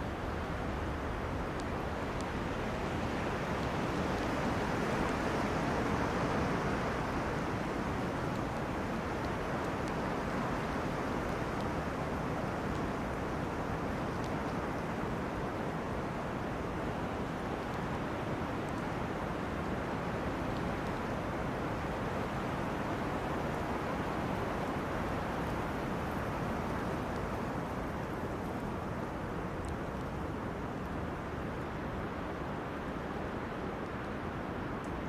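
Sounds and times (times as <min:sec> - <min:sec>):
faint light ticks: 0:00.0 - 0:35.0
wind blowing through trees: 0:00.0 - 0:35.0.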